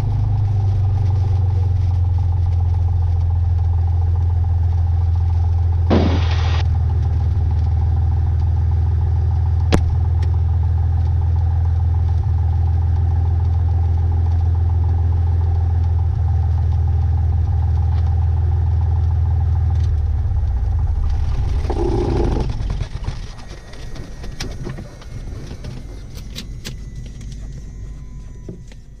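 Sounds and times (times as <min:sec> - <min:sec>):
piston aircraft engine idling: 0:00.0 - 0:29.0.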